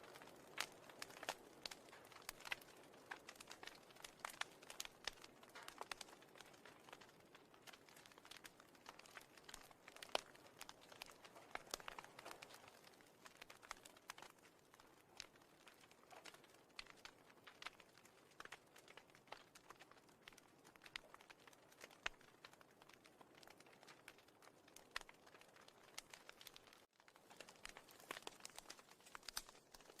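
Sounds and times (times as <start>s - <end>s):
faint clicks and crackles: 0.0s - 30.0s.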